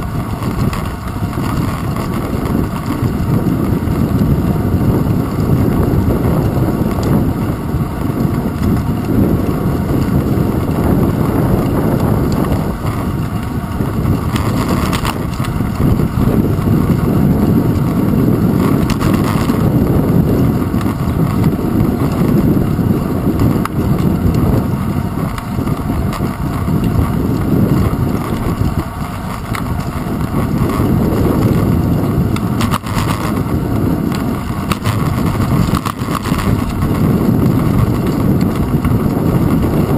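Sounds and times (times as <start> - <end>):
bicycle tyre and handlebar vibration: 0.0 - 39.9
wind rumble on microphone: 0.0 - 39.9.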